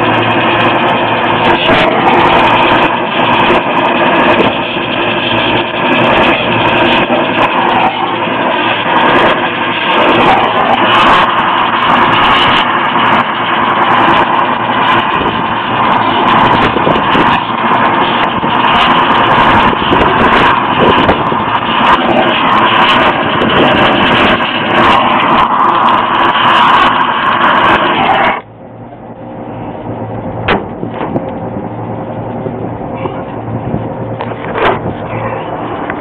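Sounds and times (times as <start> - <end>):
torch flame hissing: 0.0 - 36.0.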